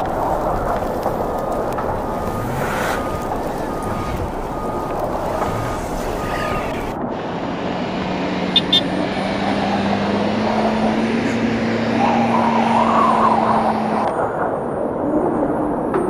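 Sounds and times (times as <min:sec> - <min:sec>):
car engine under load: 0:00.0 - 0:14.2.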